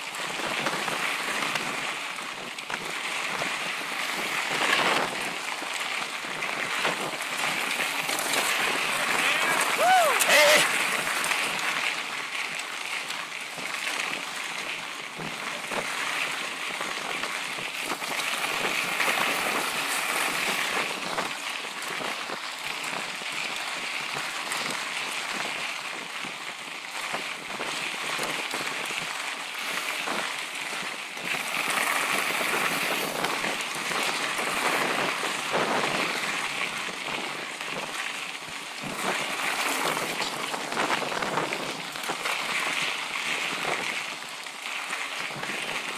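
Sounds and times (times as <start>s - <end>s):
bike rattling and clicking: 0.0s - 9.8s, 10.7s - 45.9s.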